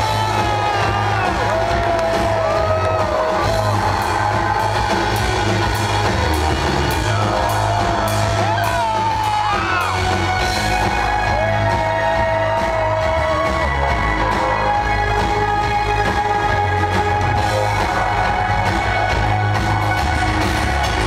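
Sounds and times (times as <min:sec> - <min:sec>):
industrial band playing live: 0:00.0 - 0:21.0.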